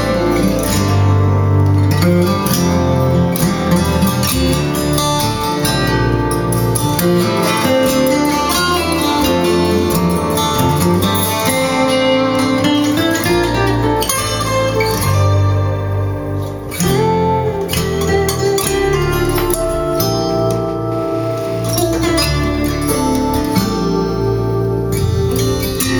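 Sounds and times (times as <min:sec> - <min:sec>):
guitar instrumental over loudspeakers: 0:00.0 - 0:25.9.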